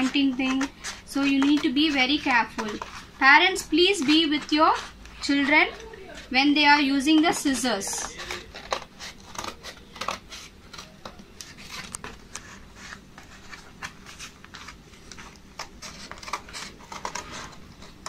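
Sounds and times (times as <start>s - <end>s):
scissors cutting cardboard: 0.0s - 18.0s.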